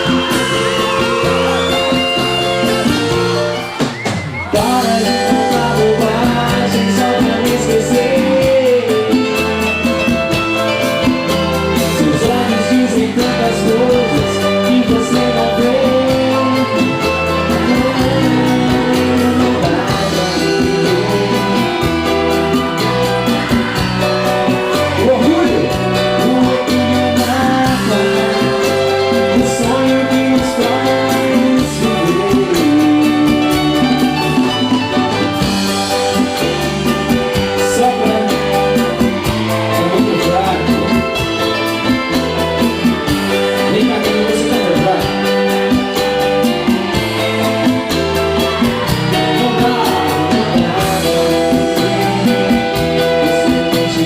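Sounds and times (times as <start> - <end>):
live band music: 0.0 - 54.0
person singing: 4.4 - 10.9, 11.7 - 42.3, 43.0 - 54.0.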